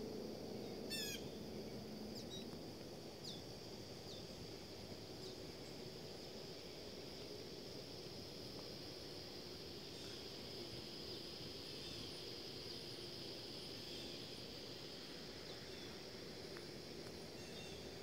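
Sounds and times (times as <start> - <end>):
high insect whine: 0.0 - 18.0
low background hum: 0.0 - 18.0.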